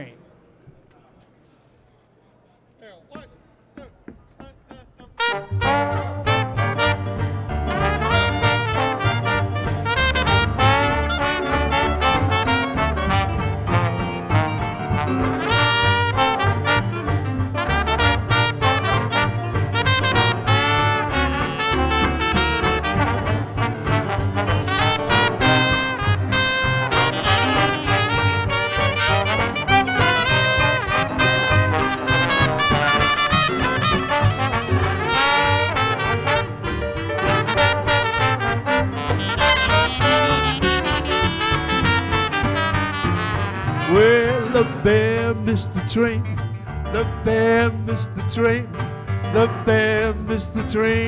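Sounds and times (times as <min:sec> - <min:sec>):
dixieland jazz band playing: 0:05.2 - 0:51.0.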